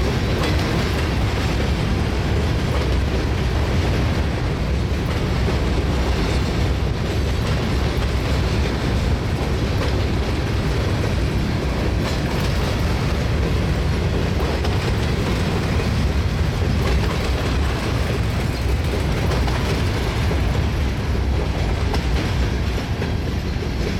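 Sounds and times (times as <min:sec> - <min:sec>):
train wheels rumbling on rails: 0:00.0 - 0:23.9
wheels clicking over rail joints: 0:00.0 - 0:23.9.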